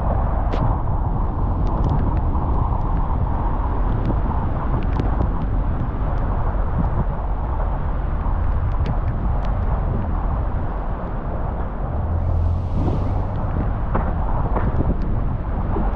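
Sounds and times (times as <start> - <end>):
car engine and road rumble: 0.0 - 15.9.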